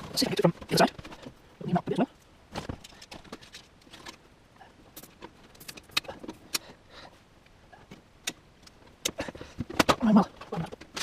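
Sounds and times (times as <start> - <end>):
cables rustling and clicking: 0.0 - 11.0.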